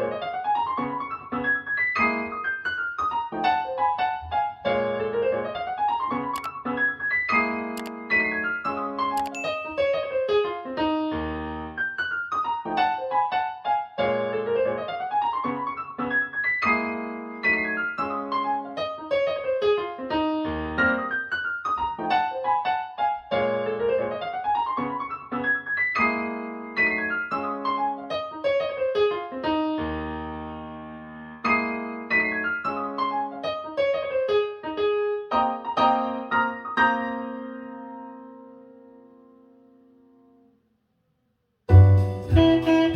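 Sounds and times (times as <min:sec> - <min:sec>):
solo piano music: 0:00.0 - 0:40.5, 0:41.7 - 0:42.9.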